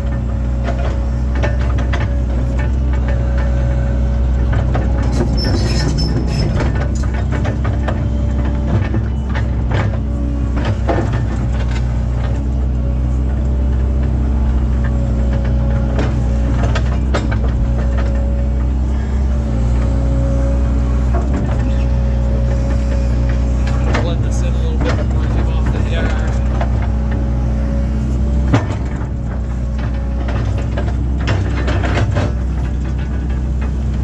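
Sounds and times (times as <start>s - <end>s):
excavator engine drone: 0.0s - 34.0s
hydraulic whine: 0.0s - 34.0s.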